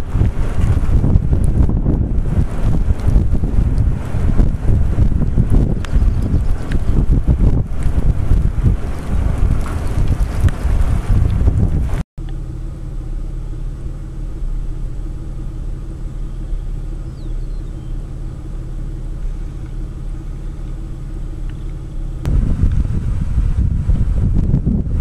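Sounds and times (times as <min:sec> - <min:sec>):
wind buffeting microphone: 0:00.0 - 0:12.0, 0:14.4 - 0:25.0
vehicle engine humming: 0:00.0 - 0:25.0.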